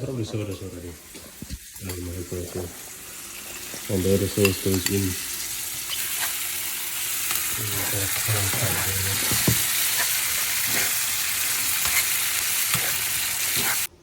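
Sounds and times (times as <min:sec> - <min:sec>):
chicken sizzling in a pan: 0:00.0 - 0:13.9.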